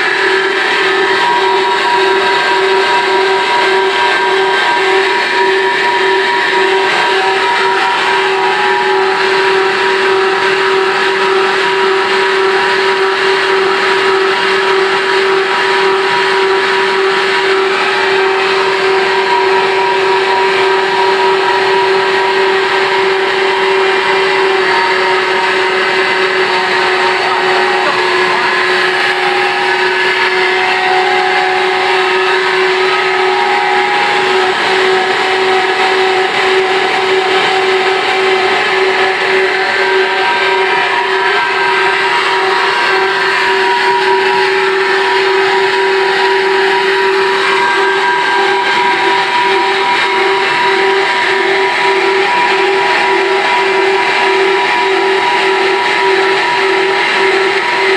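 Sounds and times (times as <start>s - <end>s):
turbine mechanical hum: 0.0s - 57.9s.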